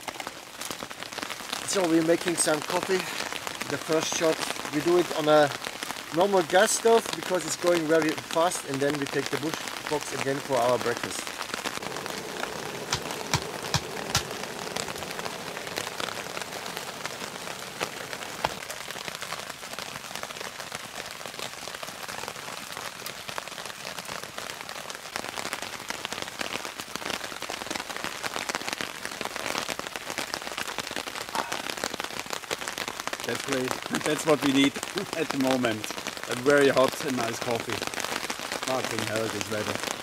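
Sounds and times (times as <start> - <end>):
rain falling on a tarp: 0.0 - 40.0.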